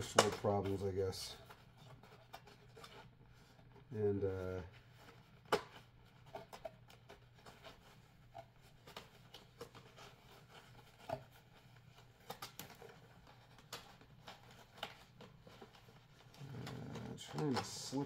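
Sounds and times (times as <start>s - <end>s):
cardboard and plastic rustling: 0.0s - 18.0s.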